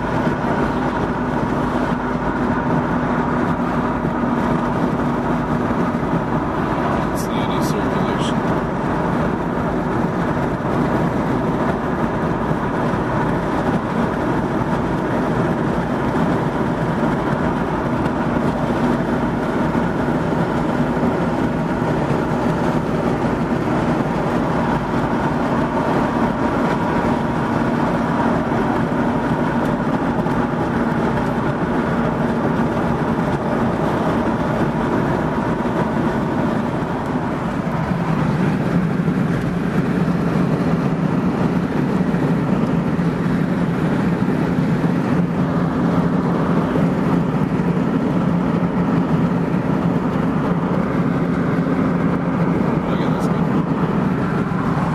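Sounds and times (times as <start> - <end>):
car road and engine noise: 0.0 - 54.9.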